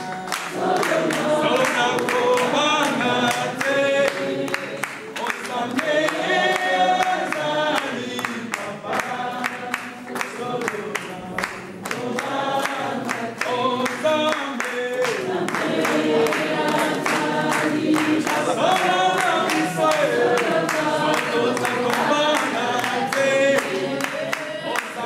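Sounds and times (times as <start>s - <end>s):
group of people singing: 0.0s - 25.0s
hand-clapping: 0.0s - 25.0s.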